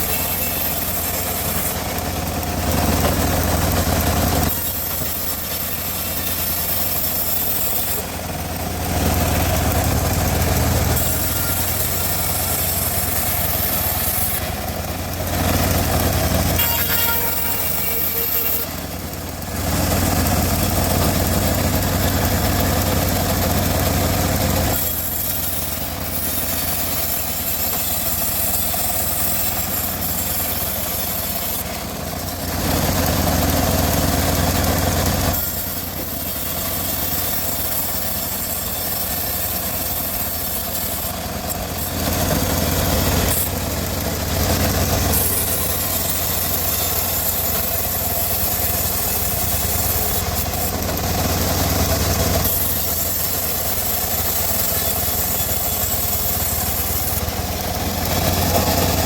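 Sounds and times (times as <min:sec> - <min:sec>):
band sawmill droning: 0:00.0 - 0:59.0.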